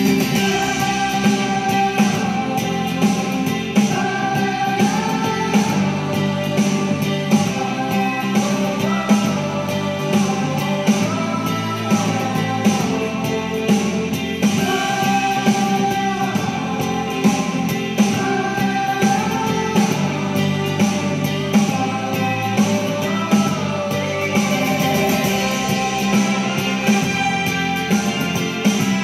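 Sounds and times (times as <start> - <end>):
guitar-led instrumental music: 0.0 - 29.0.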